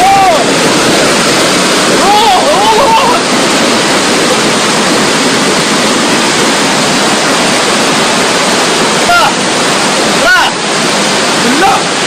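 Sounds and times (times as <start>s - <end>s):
floodwater rushing down street: 0.0s - 12.0s.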